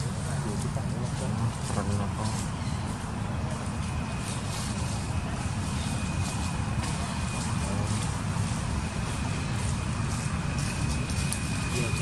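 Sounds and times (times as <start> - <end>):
outdoor rumble: 0.0 - 12.0.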